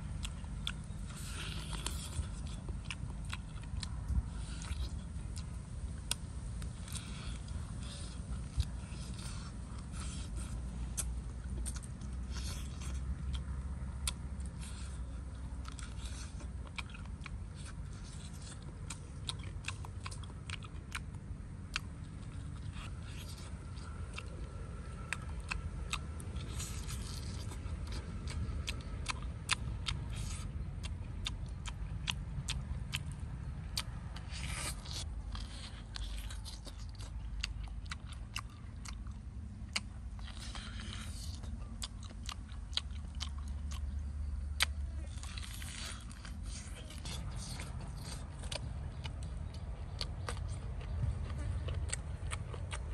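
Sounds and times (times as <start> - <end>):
man chewing and biting: 0.0 - 52.9.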